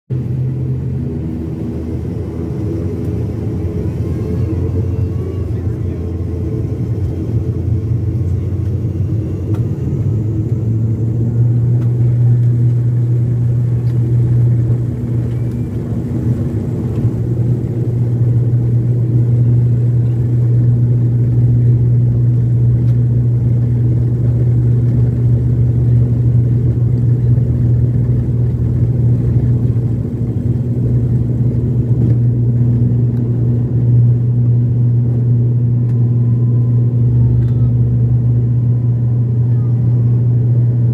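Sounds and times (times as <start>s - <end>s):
turboprop engines droning: 0.1s - 40.9s.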